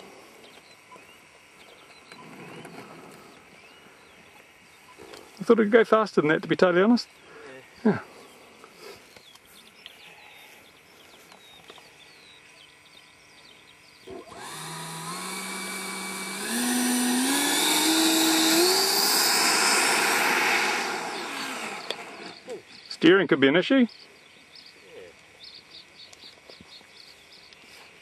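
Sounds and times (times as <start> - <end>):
electric ducted fan whine: 0.0 - 28.0.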